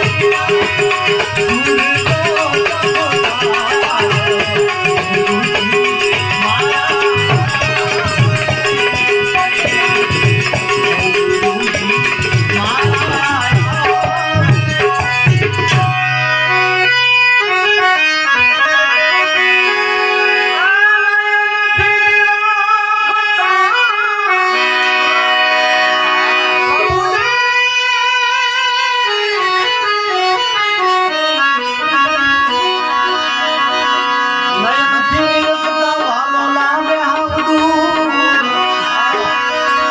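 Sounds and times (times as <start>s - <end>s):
tabla drums: 0.0s - 17.1s, 21.2s - 23.4s, 24.6s - 39.9s
harmonium playing chords: 0.0s - 39.9s.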